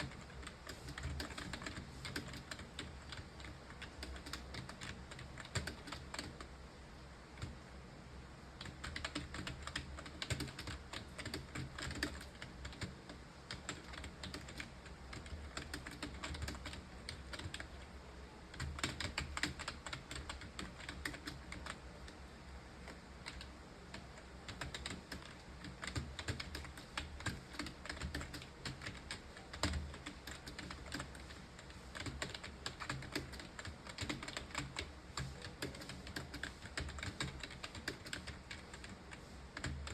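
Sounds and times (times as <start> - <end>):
typing on computer keyboard: 0.0 - 6.5, 8.6 - 17.8, 18.5 - 22.2, 22.8 - 39.9.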